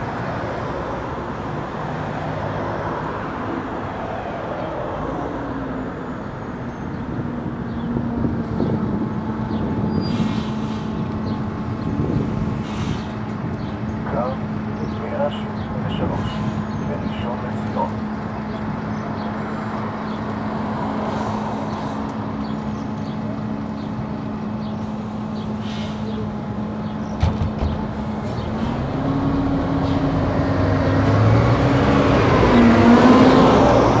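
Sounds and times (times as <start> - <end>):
bus diesel engine: 0.0 - 34.0.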